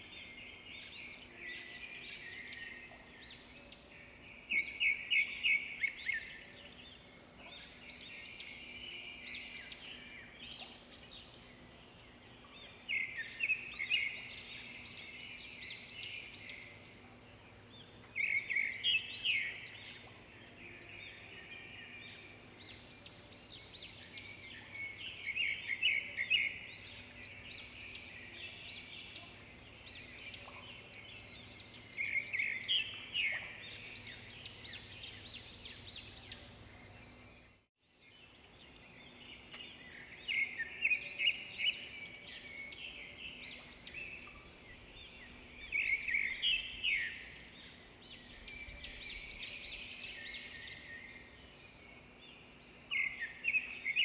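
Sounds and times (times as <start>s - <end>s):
bird trilling song: 0.0s - 54.0s
quiet bird chirping: 0.0s - 54.0s.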